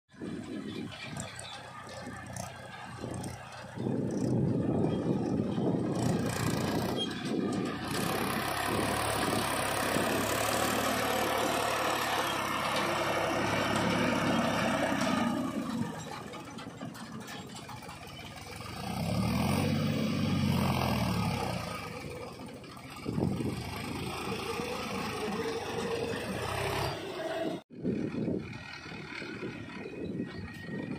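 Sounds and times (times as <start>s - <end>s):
diesel tractor engine running hard: 0.1s - 30.9s.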